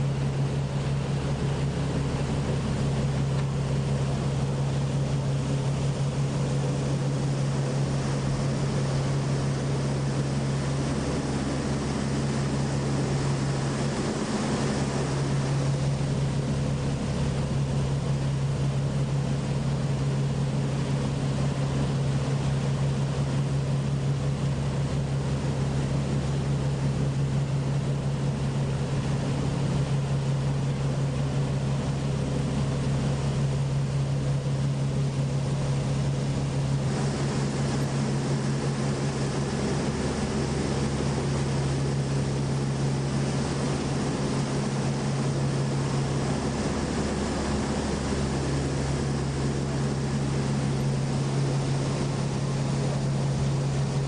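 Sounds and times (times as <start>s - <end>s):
motorboat engine drone: 0.0s - 54.0s
wind and water hiss: 0.0s - 54.0s.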